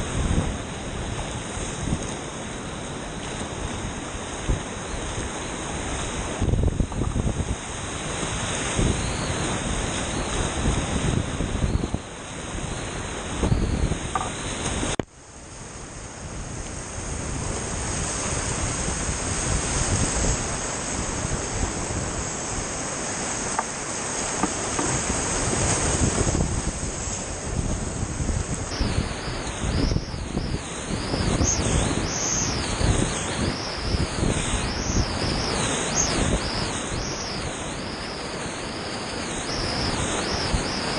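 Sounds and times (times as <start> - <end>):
wind buffeting microphone: 0.0 - 15.0, 15.7 - 40.9
rushing whitewater: 0.0 - 40.9.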